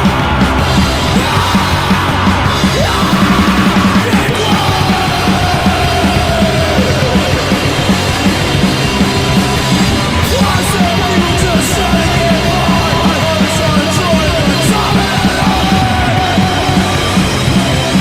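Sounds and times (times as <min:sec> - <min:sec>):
distorted punk rock band: 0:00.0 - 0:18.0
shouted vocals: 0:00.0 - 0:18.0.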